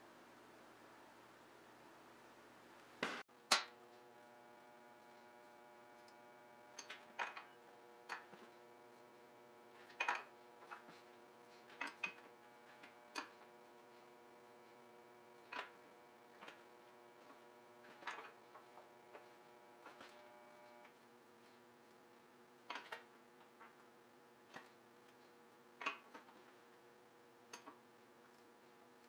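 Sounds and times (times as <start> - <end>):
faint machine hum: 0.0 - 29.0.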